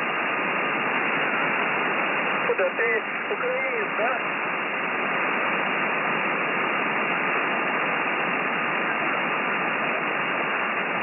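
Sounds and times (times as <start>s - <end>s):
radio receiver hiss: 0.0s - 11.0s.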